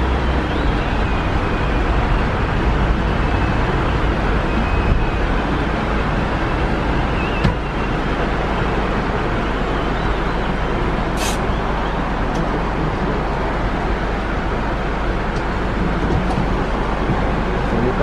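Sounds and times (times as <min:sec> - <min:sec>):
road and engine noise inside van: 0:00.0 - 0:18.0.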